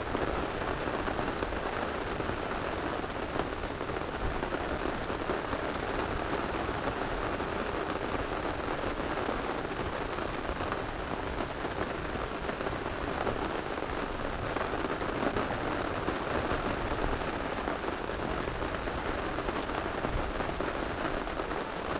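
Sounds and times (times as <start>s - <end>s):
faint rain ticks: 0.0s - 21.9s
steady rain hiss: 0.0s - 21.9s.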